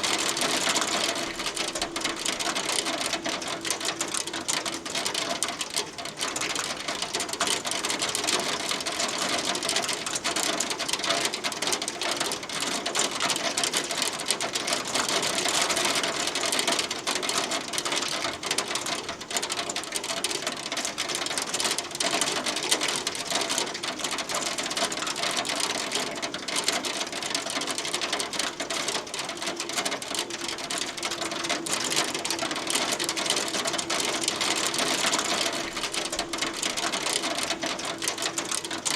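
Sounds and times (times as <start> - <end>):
hail clattering on hard surface: 0.0 - 38.9.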